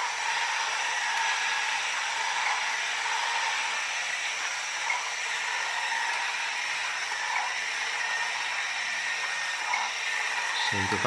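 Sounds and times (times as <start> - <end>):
model engine whirring: 0.0 - 11.0.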